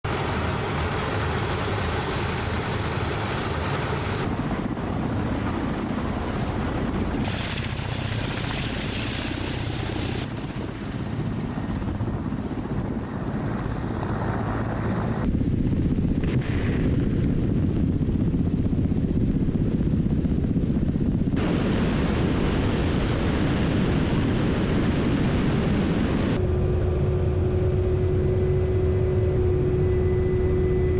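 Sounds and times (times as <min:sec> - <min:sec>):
helicopter rotors droning: 0:00.1 - 0:30.9.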